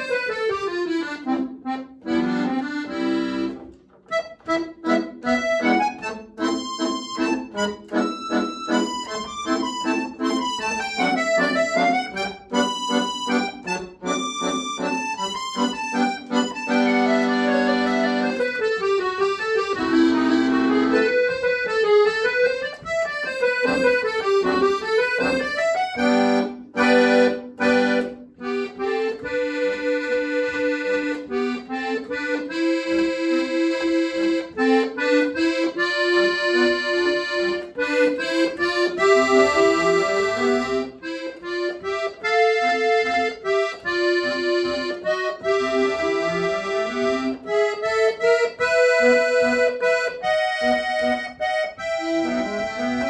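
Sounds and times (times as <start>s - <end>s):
solo accordion classical piece: 0.0s - 53.0s.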